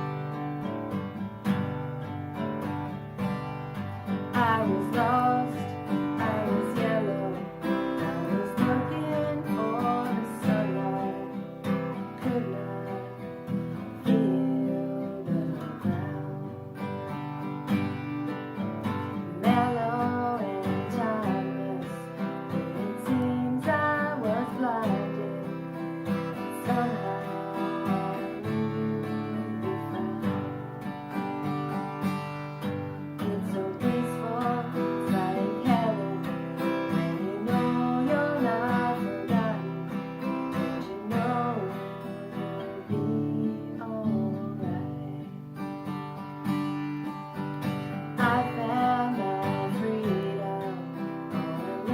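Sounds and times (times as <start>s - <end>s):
acoustic guitar strumming chords: 0.0s - 51.9s
woman singing: 3.8s - 17.2s, 18.8s - 30.7s, 32.6s - 45.6s, 47.6s - 51.9s.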